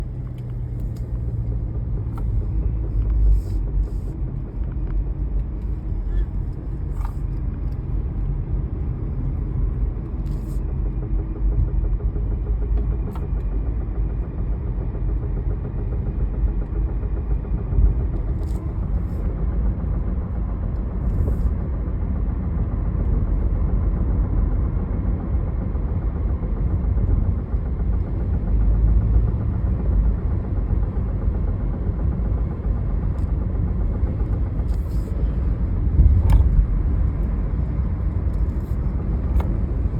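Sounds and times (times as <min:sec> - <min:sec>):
car driving with low rumble: 0:00.0 - 0:39.9.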